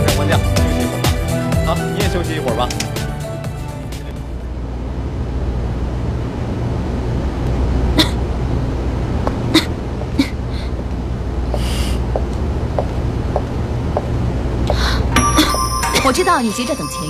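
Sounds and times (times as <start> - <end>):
low hum: 3.2 - 17.0.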